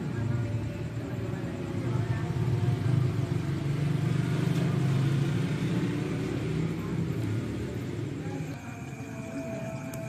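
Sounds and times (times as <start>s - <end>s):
low engine-like rumble: 0.0s - 10.0s.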